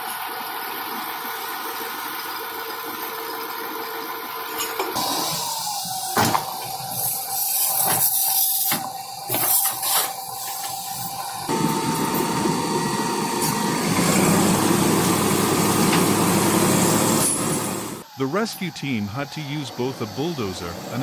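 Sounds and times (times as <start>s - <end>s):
heavy machinery engine whine: 0.2s - 21.0s.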